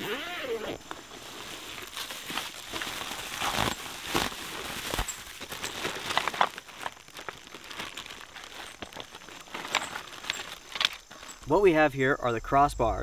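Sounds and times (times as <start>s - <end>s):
bubble wrap crinkling: 0.0s - 11.4s.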